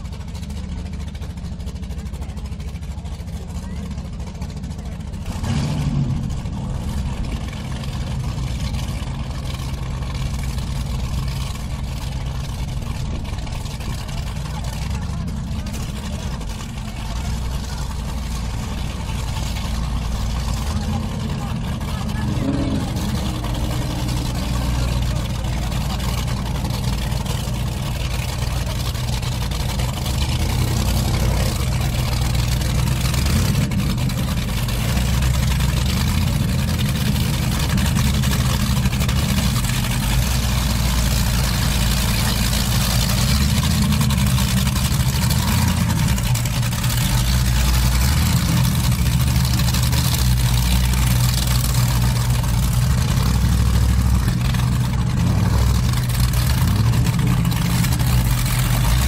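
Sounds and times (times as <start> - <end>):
boat engines rumbling: 0.0 - 59.0.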